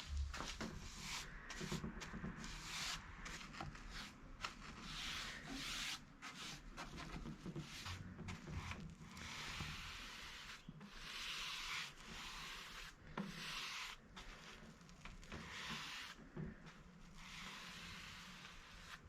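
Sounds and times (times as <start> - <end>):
paintbrush strokes on wood: 0.0 - 19.0.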